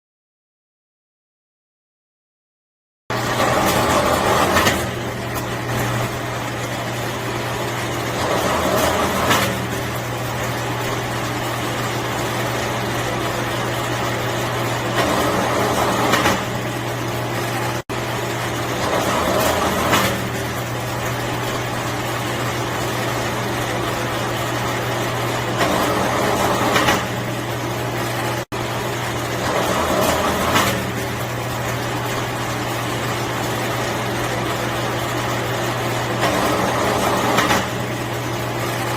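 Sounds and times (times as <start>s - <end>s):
machine motor humming: 3.1s - 38.9s
wire fed through stripping blades: 3.1s - 38.9s.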